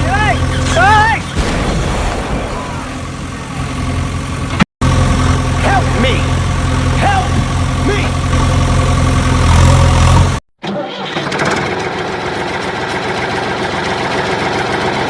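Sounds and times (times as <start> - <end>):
rough rattling engine: 0.0 - 15.0
small engine idling: 2.7 - 15.0.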